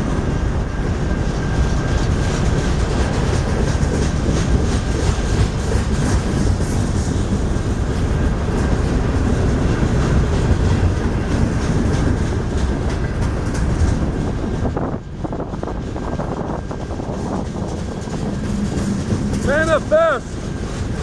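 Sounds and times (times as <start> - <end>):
freight train wheels clicking: 0.0 - 21.0
train rumbling: 0.0 - 21.0.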